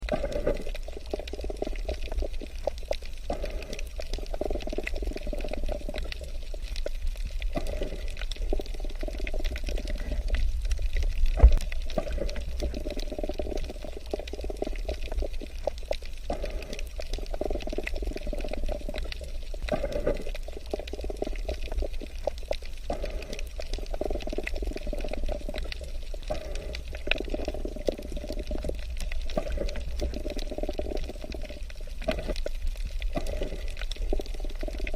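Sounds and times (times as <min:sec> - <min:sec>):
exhaled air bubbling underwater: 0:00.0 - 0:34.9
low underwater rumble: 0:00.0 - 0:34.9.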